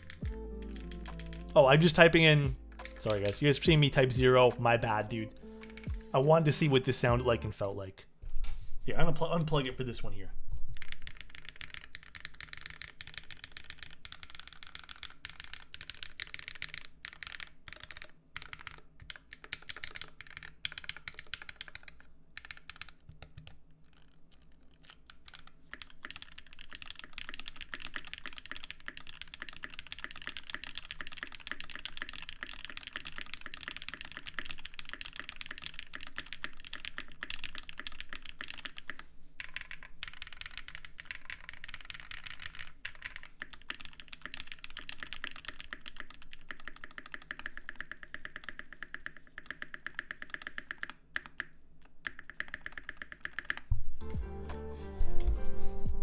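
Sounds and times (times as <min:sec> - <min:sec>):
mechanical keyboard typing: 0:00.0 - 0:07.8, 0:10.7 - 0:53.7.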